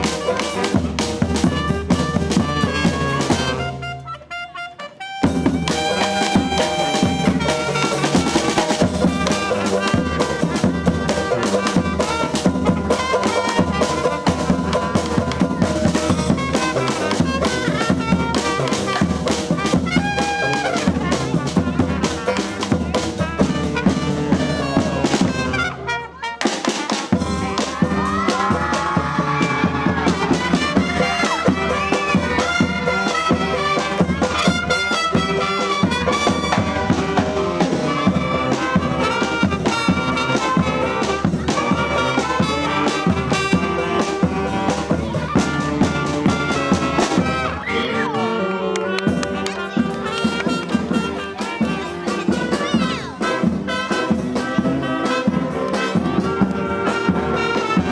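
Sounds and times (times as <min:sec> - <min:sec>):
drum kit and percussion: 0:00.0 - 0:47.8, 0:49.0 - 0:57.9
brass band playing: 0:00.0 - 0:57.9.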